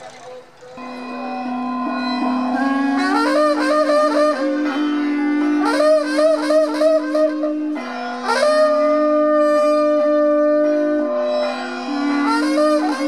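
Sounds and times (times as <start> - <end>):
steady drone: 0.0 - 13.0
wind instrument melody: 0.0 - 13.0.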